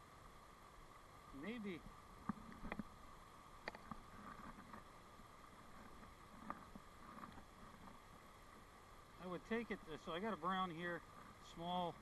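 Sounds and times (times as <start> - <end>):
faint stream rushing: 0.0 - 12.0.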